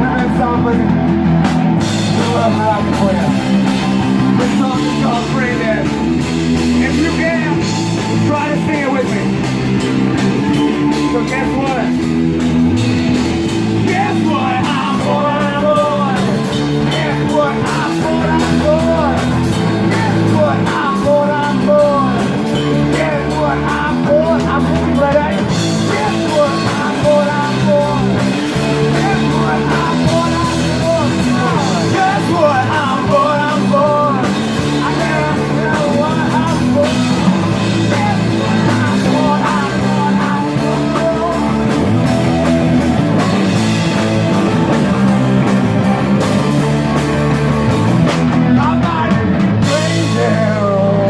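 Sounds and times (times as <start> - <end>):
drums: 0.0 - 51.0
guitar: 0.0 - 51.0
person singing: 1.8 - 9.5, 10.2 - 12.1, 12.8 - 42.6, 46.4 - 51.0.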